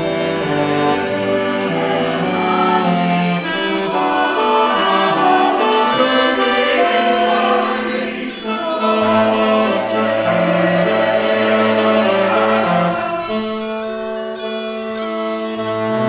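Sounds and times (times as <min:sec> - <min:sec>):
choir singing with instruments: 0:00.0 - 0:14.4.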